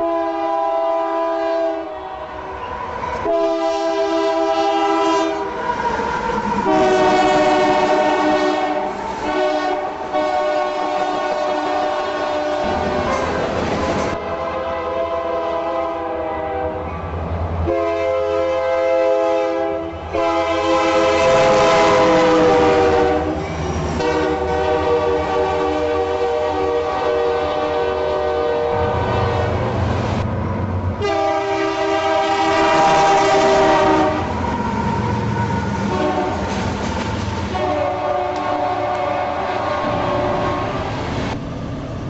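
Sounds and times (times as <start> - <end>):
locomotive air horn blasts: 0.0 - 2.5, 3.1 - 5.7, 6.6 - 13.3, 14.0 - 16.9, 17.6 - 23.4, 24.0 - 29.8, 31.0 - 34.4, 35.8 - 36.6, 37.5 - 41.0
low rumble of train: 0.0 - 42.0.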